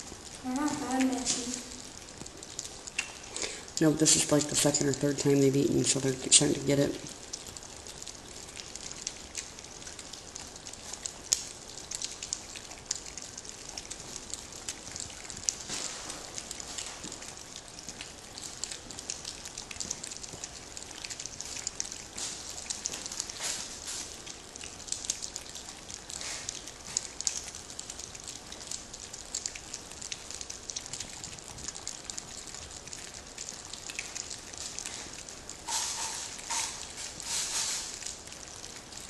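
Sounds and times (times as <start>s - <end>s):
puppies eating and moving in litter: 0.0s - 39.0s.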